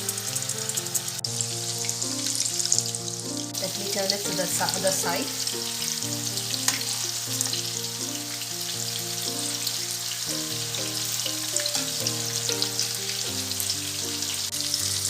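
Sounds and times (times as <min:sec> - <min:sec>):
chicken sizzling in hot oil: 0:00.0 - 0:15.0
melodic background music: 0:00.0 - 0:15.0.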